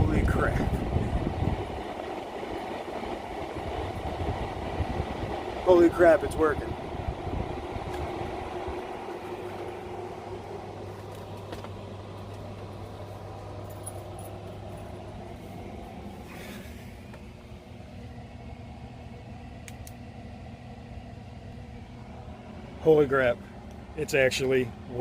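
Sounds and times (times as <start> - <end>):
air conditioner hum: 0.0 - 25.0.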